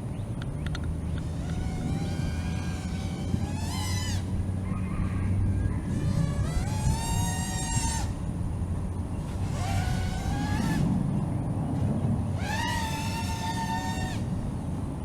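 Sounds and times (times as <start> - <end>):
steady low rumble: 0.0 - 12.4
drone motors and propellers whining: 0.0 - 15.0.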